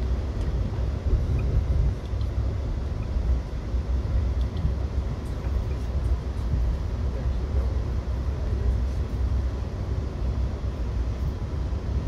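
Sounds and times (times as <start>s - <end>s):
train coach rumbling on rails: 0.0s - 12.0s.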